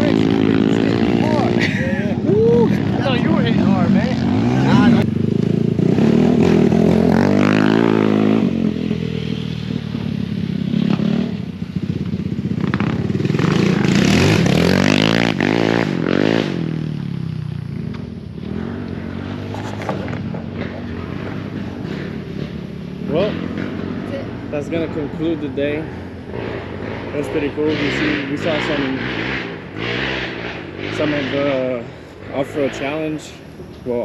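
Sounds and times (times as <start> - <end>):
off-road vehicle engines revving: 0.0 - 34.0.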